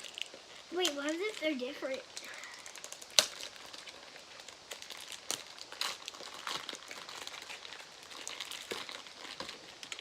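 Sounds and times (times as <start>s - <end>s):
plastic package crinkling: 0.0s - 10.0s.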